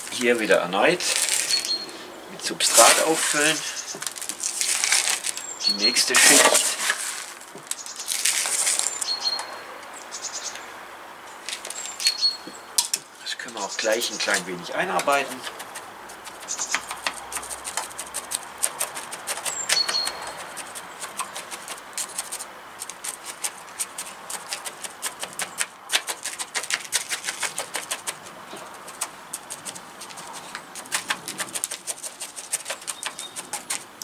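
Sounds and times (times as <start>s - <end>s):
chopstick scratching gritty soil: 0.0s - 1.8s, 2.4s - 9.2s, 13.3s - 34.0s.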